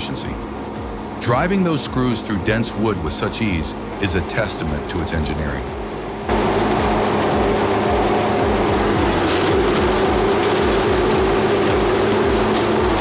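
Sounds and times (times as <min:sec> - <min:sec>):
wood chipper running: 0:00.0 - 0:13.0.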